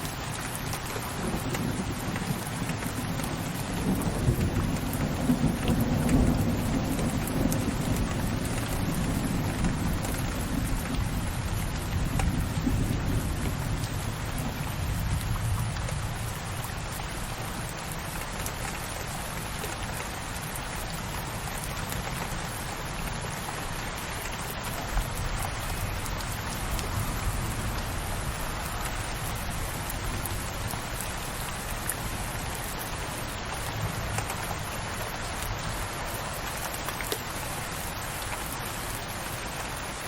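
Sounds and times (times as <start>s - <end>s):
sharp raindrop ticks: 0.0s - 40.0s
steady rain falling: 0.0s - 40.0s.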